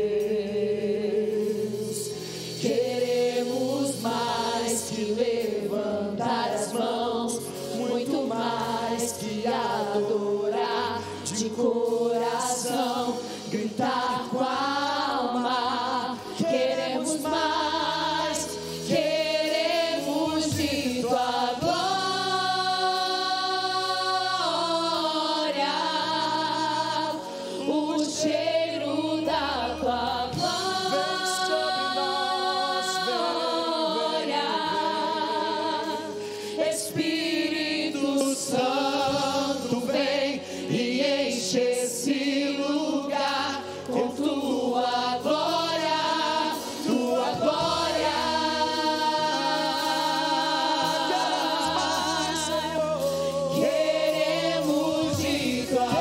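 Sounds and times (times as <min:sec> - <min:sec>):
group singing a praise song: 0:00.0 - 0:56.0
low musical accompaniment: 0:00.0 - 0:56.0.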